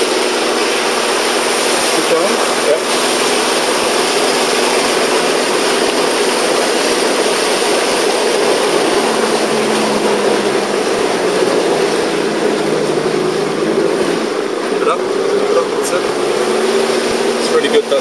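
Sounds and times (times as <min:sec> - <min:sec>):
vehicle engine running: 0:00.0 - 0:18.0
water rushing: 0:00.0 - 0:18.0.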